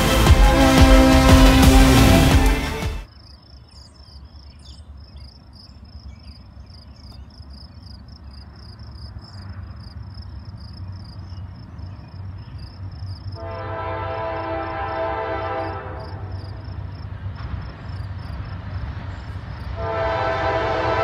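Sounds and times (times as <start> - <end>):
distant train rumble: 0.0 - 3.5, 4.8 - 21.0
crickets chirping: 3.1 - 20.5.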